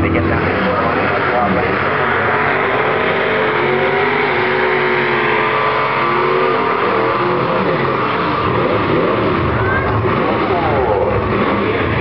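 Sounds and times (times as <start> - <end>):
engines revving high: 0.0 - 12.0.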